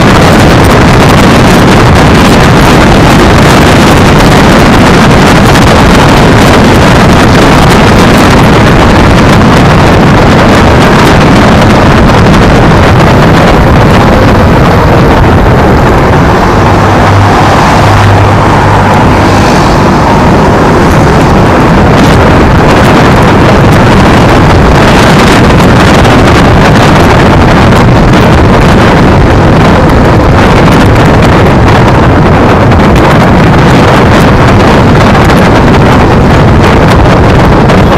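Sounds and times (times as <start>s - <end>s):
road rumble: 0.0s - 37.9s
wind buffeting: 0.0s - 37.9s.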